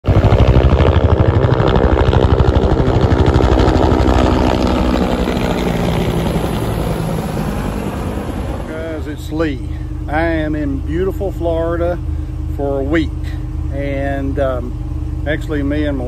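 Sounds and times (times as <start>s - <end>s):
helicopter rotor blades thudding: 0.0s - 16.0s.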